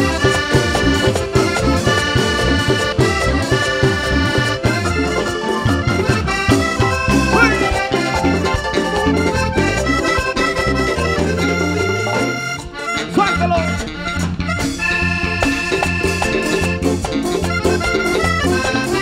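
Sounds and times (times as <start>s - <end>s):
bass: 0.0s - 19.0s
button accordion melody: 0.0s - 19.0s
steady percussion: 0.0s - 19.0s.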